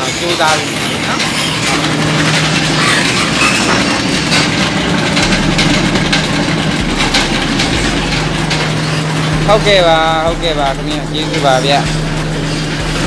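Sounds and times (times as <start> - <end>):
machinery hum and rushing: 0.0 - 13.0.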